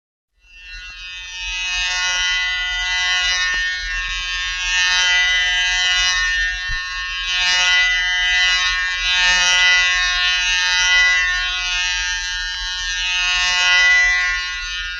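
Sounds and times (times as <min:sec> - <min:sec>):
droning electric buzz: 0:00.4 - 0:14.9.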